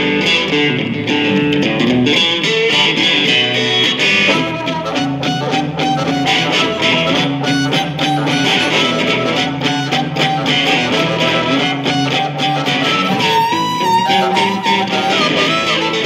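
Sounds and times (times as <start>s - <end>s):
blues harmonica: 0.0s - 16.0s
electric guitar accompaniment: 0.0s - 16.0s.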